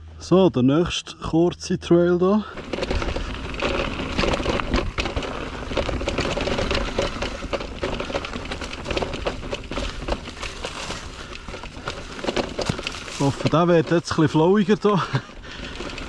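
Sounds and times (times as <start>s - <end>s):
tyres rolling over dirt: 2.3s - 16.0s
bike rattling and knocking: 2.4s - 16.0s.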